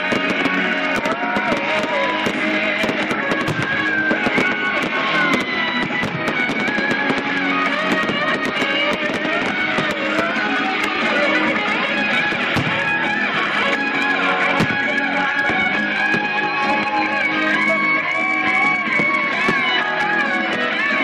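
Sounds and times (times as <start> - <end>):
firework pops and crackles: 0.0 - 13.1, 14.5 - 17.0, 18.4 - 21.0
guitar rock music: 0.0 - 21.0.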